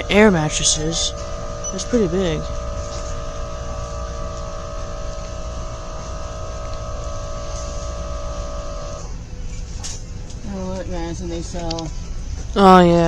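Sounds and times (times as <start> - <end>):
electrical hum with held tones: 0.0 - 13.0.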